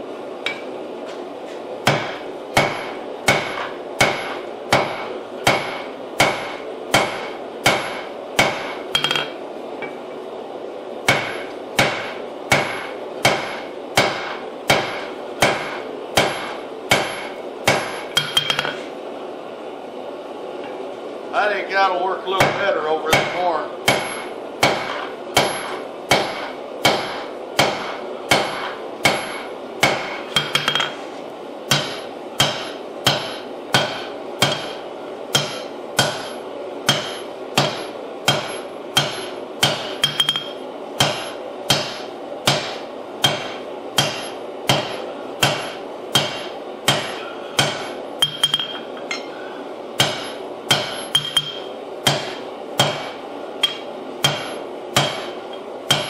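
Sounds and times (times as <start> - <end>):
hammer striking hot steel on anvil: 0.4 - 0.7, 1.8 - 10.0, 11.0 - 18.8, 22.4 - 31.0, 31.7 - 49.4, 50.0 - 56.0.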